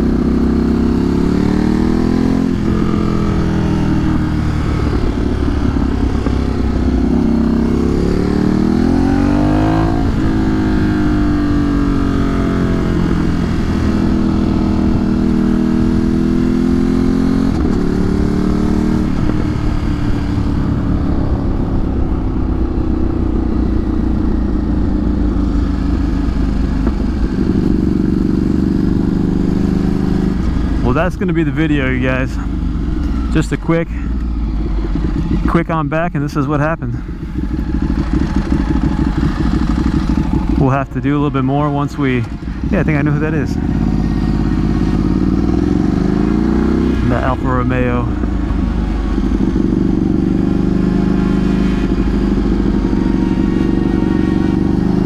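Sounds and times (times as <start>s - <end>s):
gear shifts: 0.0s - 55.0s
motorcycle engine running: 0.0s - 55.0s.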